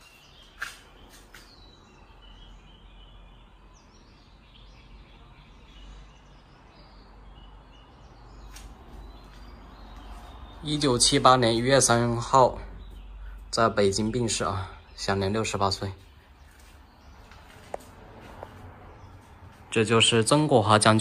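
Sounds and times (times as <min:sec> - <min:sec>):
faint bird chirps: 0:00.0 - 0:17.8.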